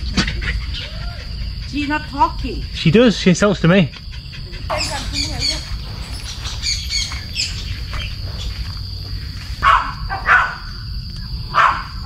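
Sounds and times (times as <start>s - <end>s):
birds chirping: 0.0s - 12.0s
high insect drone: 0.0s - 12.0s
loud bird calls: 0.0s - 12.0s.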